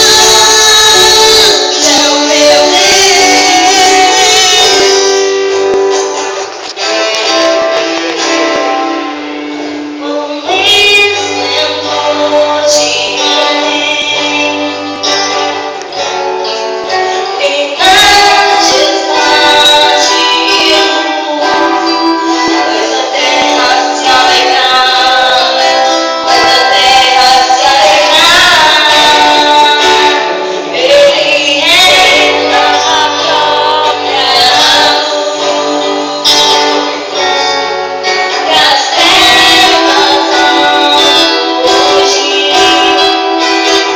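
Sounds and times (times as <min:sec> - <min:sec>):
woman singing: 0:00.0 - 0:05.3, 0:10.0 - 0:15.6, 0:17.1 - 0:37.2, 0:38.3 - 0:43.9
guitar accompaniment: 0:00.0 - 0:43.9.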